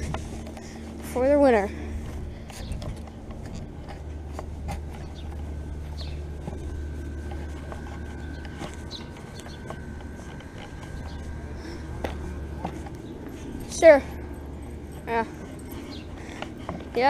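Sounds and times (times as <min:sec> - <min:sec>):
heat pump low hum: 0:00.0 - 0:17.0
thin high whine: 0:00.0 - 0:17.0.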